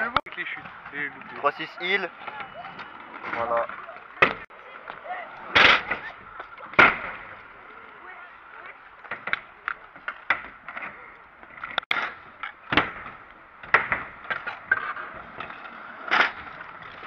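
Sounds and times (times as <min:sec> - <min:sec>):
scooter wheels rolling on concrete: 0:00.0 - 0:17.0.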